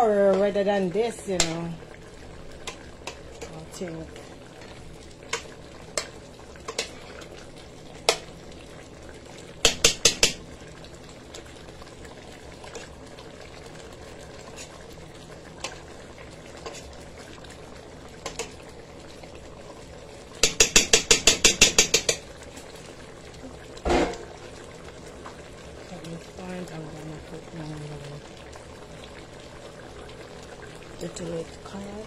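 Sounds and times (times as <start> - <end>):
pot bubbling: 0.0 - 32.0.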